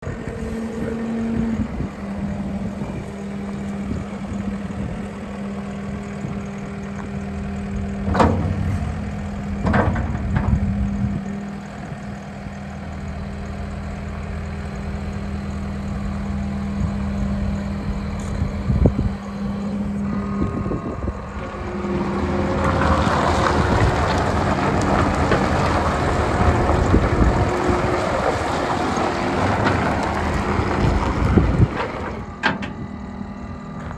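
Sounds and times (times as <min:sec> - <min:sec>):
diesel skid steer running: 0:00.0 - 0:33.9.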